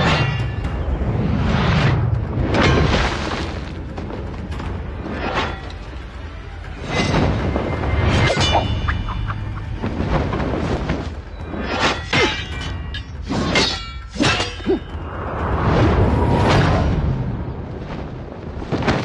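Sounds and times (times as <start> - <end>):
dramatic background music: 0.0 - 19.0.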